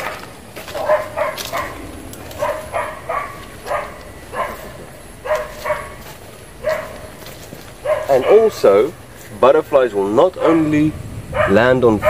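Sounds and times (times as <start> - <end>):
dog barking: 0.0 - 8.9, 10.4 - 12.0.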